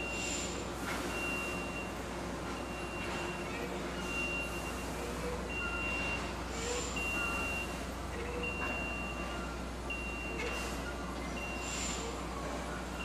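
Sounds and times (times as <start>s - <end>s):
forklift reversing alarm beeping: 0.0s - 13.0s.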